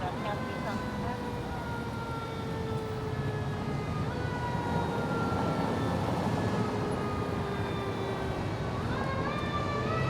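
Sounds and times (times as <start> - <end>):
engine and traffic rumble: 0.0 - 10.0
fire truck siren wailing: 0.0 - 10.0.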